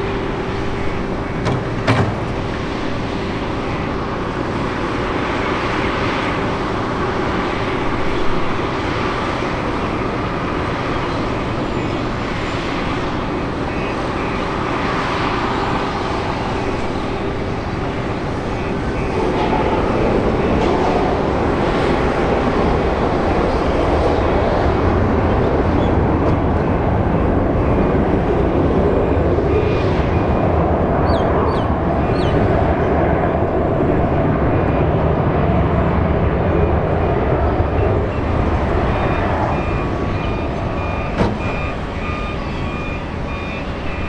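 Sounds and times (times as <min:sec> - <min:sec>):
jet engine rush: 0:00.0 - 0:44.0.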